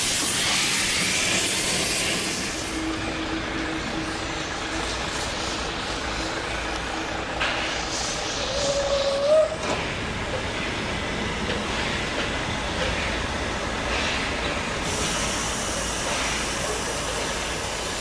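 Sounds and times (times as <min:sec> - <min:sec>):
steam hissing: 0:00.0 - 0:18.0
steam train rolling: 0:00.0 - 0:18.0.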